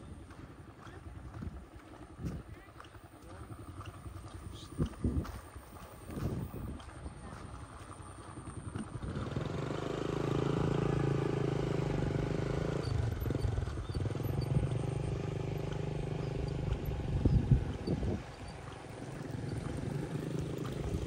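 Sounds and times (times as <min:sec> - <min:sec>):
motorbike engine running: 0:00.0 - 0:21.0.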